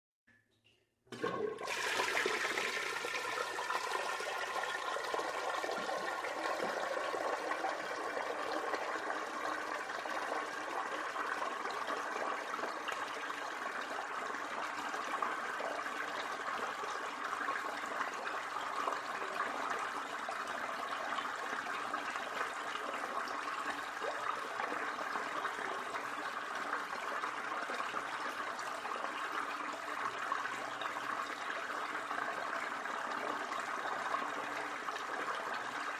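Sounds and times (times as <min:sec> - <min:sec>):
tap water running into bathtub: 0:01.1 - 0:35.9.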